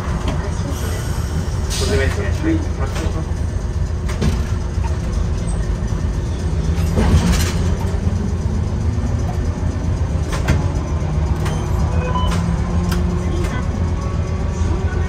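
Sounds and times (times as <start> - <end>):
streetcar rumble: 0.0 - 15.0.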